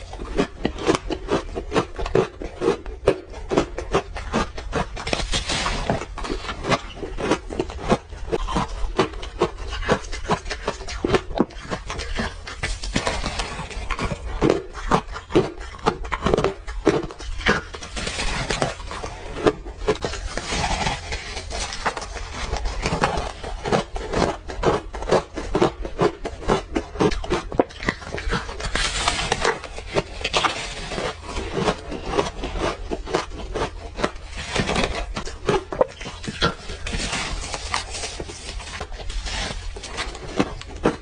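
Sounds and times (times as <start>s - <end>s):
chewing and crunching ice: 0.0s - 41.0s.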